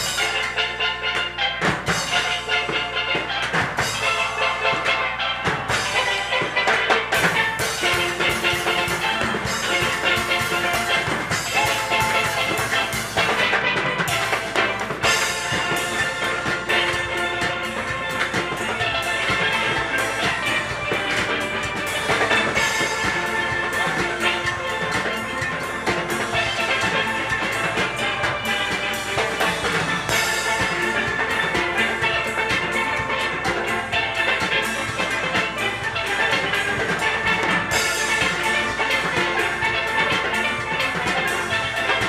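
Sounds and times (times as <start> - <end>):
drums keeping beat: 0.0 - 42.0
steelpans playing fast notes: 0.0 - 42.0.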